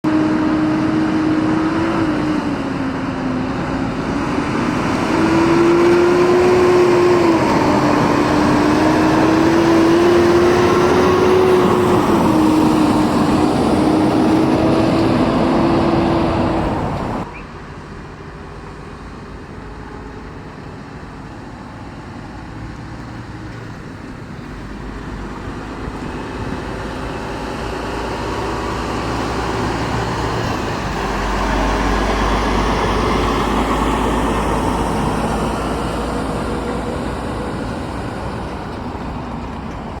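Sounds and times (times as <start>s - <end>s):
approaching truck rumble: 0.0s - 40.0s
diesel truck accelerating: 0.0s - 40.0s
traffic hum: 0.0s - 40.0s.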